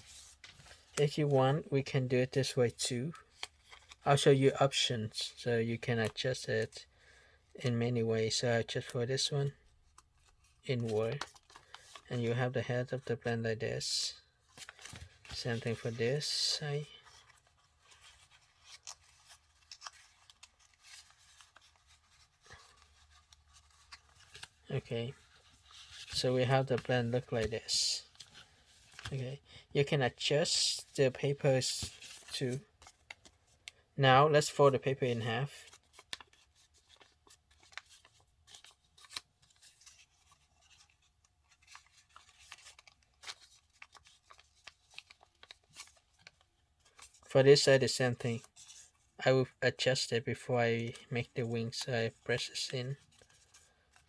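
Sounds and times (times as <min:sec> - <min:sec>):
paper being folded: 0:00.0 - 0:01.1, 0:03.1 - 0:06.7, 0:08.6 - 0:13.4, 0:14.1 - 0:49.2, 0:50.9 - 0:54.0.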